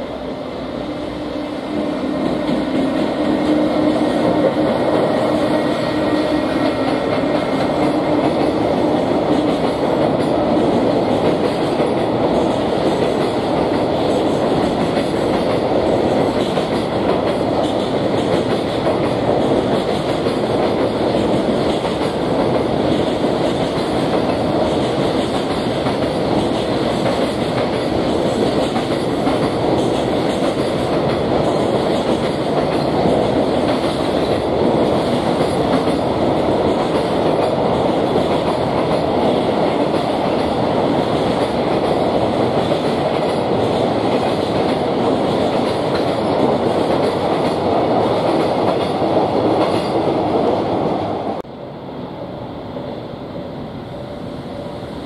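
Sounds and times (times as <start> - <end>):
freight train wagons rumbling: 0.0 - 51.5.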